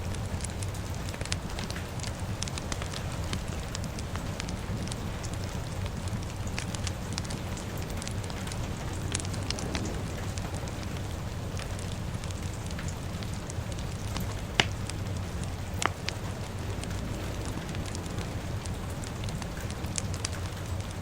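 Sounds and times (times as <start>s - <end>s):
fire crackling and popping: 0.0s - 21.0s
steady rain: 0.0s - 21.0s.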